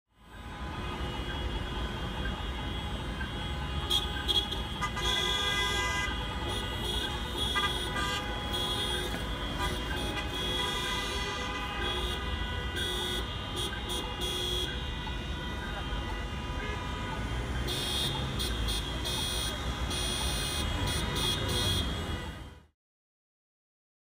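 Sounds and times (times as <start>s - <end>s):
car horns honking: 0.2s - 22.7s
low rumble of traffic: 0.2s - 22.7s.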